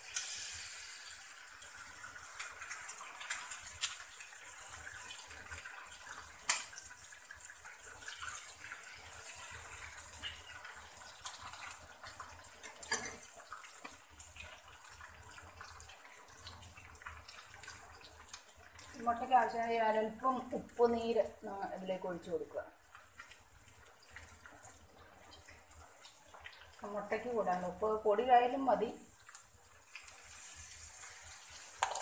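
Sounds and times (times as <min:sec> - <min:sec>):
egg sizzling in a frying pan: 0:00.0 - 0:32.0.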